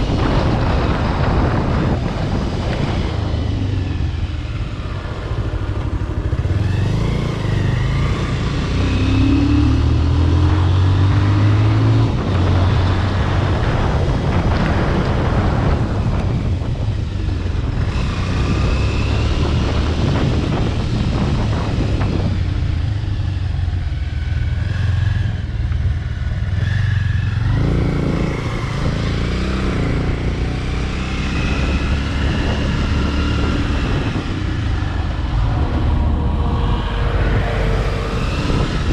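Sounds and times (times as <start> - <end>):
motorcycle engine: 0.0 - 38.9
wind and road rush: 0.0 - 38.9.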